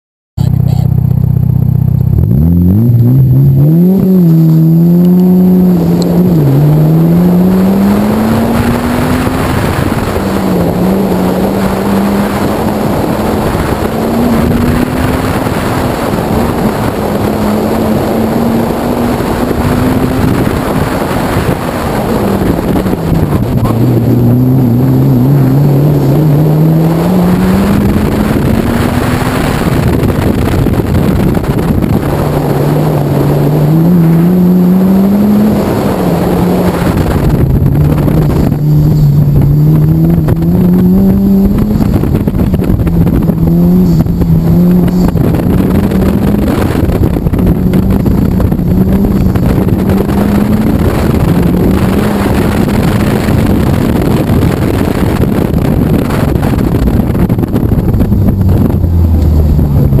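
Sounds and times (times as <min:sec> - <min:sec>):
car engine revving: 0:00.4 - 1:00.0
wind and tyre noise: 0:00.4 - 1:00.0.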